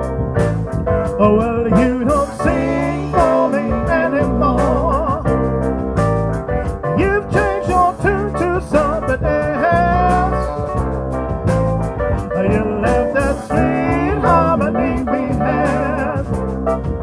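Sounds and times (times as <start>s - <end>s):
bass: 0.0s - 17.0s
drum kit: 0.0s - 17.0s
keyboard: 0.0s - 17.0s.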